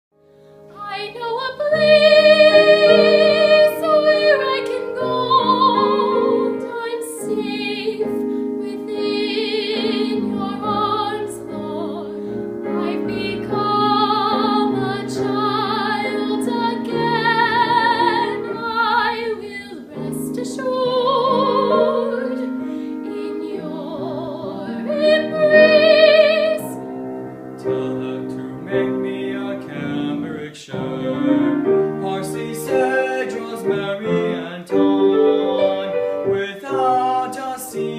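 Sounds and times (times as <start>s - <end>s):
piano accompaniment: 0.2s - 37.9s
classical singer with vibrato: 0.6s - 37.9s.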